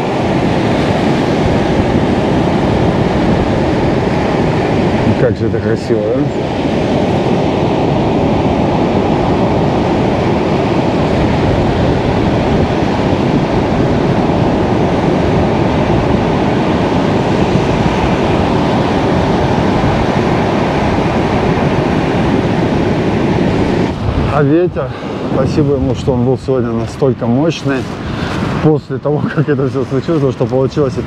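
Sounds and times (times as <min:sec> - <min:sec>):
surf breaking on beach: 0:00.0 - 0:31.0
wind rumbling on microphone: 0:00.0 - 0:31.0.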